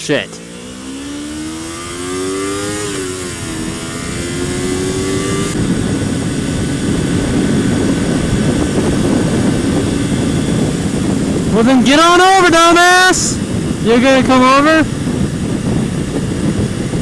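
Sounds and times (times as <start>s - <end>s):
motorcycle engine accelerating: 0.0s - 17.0s
rush of wind noise: 0.0s - 17.0s.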